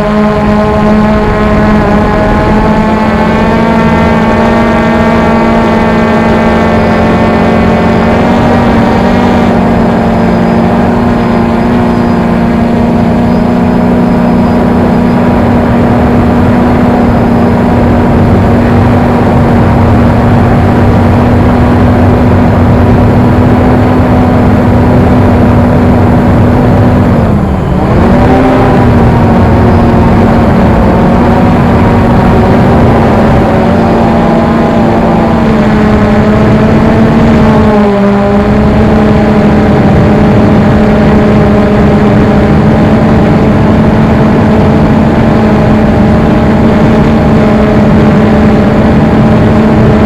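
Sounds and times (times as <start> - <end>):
quadcopter hovering: 0.0 - 50.0.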